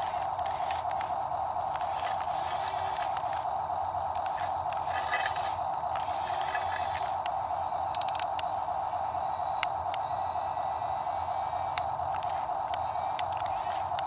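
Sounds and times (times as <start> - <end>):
toy electric motors whirring: 0.0 - 14.0.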